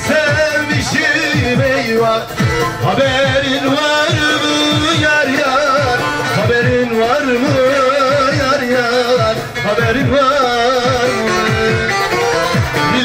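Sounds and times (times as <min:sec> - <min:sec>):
ornamented folk melody: 0:00.0 - 0:13.0.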